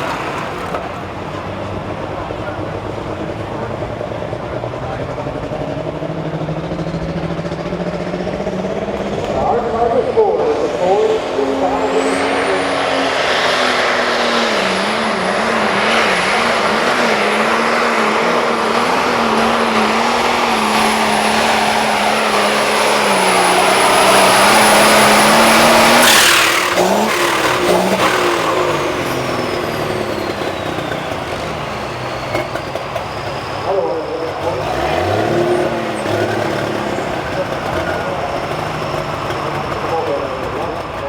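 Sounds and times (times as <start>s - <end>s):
tractor engine running flat out: 0.0s - 41.0s
turbo whine: 0.0s - 41.0s.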